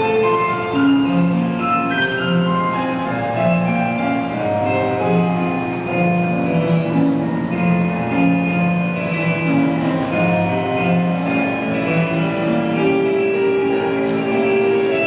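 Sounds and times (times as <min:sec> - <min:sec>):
slow instrumental music: 0:00.0 - 0:15.0.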